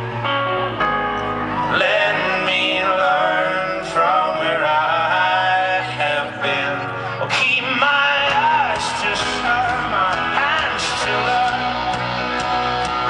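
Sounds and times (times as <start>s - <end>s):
folk-rock band playing: 0.0s - 13.0s
men singing wordless harmonies: 1.7s - 12.5s.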